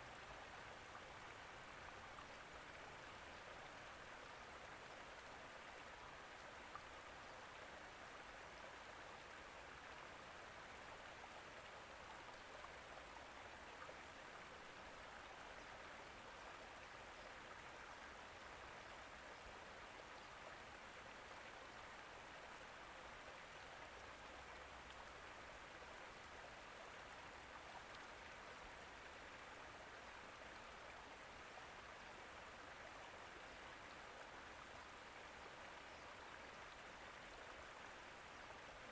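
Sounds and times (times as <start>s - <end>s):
faint rushing water: 0.0s - 38.9s.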